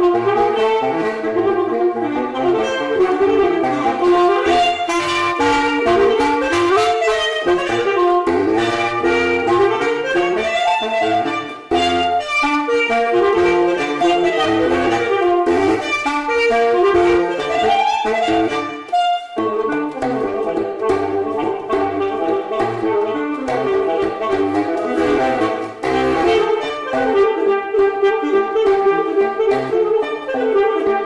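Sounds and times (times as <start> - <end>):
bass line: 0.0 - 29.9
saxophone jazz melody: 0.0 - 31.0.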